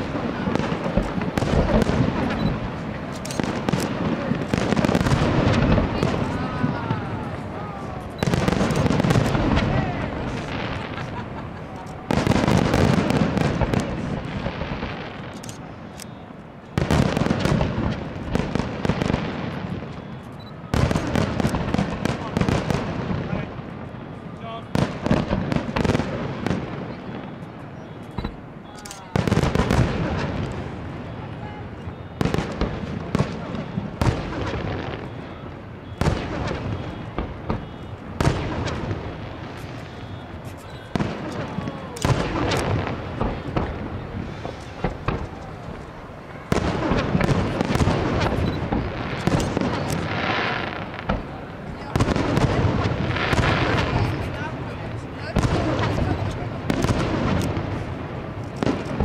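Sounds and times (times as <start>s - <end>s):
firework shells bursting: 0.0s - 23.7s, 24.8s - 54.4s
firework crackling: 0.0s - 59.0s.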